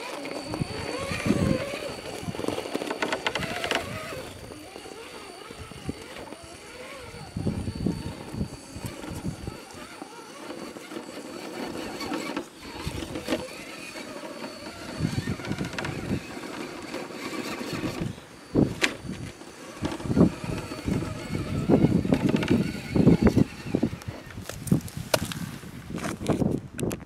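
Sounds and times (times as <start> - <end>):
electric motor whining faintly: 0.0 - 26.6.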